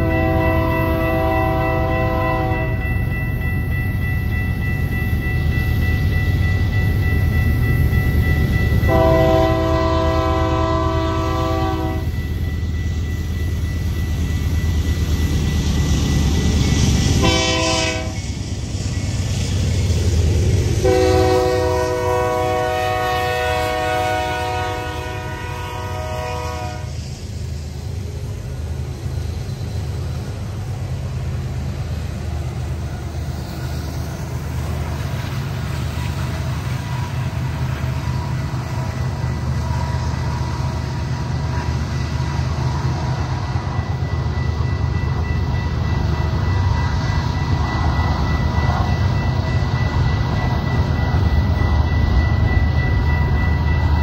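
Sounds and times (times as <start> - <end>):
diesel locomotives rumbling: 0.0 - 54.0.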